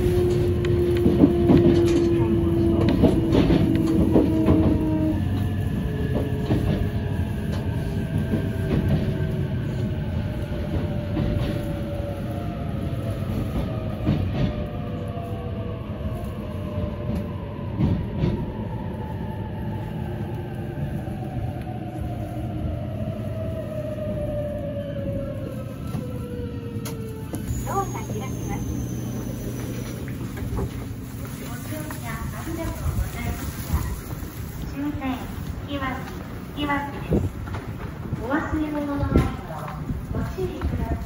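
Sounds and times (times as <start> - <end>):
train rumble: 0.0 - 41.0.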